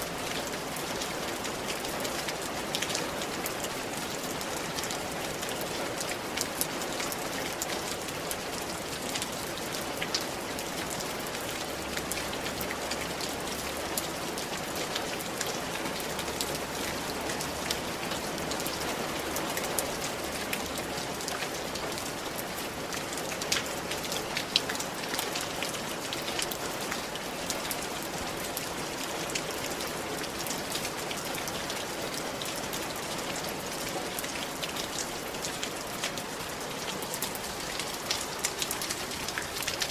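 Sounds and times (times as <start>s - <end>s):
rain on a tiled roof: 0.0s - 39.9s.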